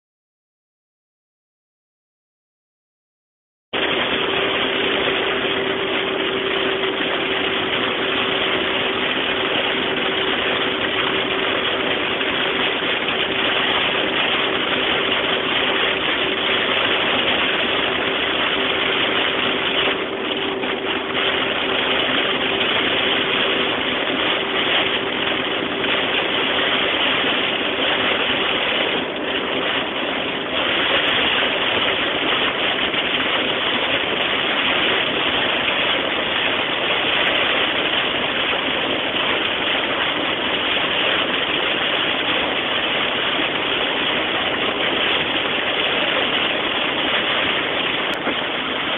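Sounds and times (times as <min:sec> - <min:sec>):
steady hum: 0:03.8 - 0:48.9.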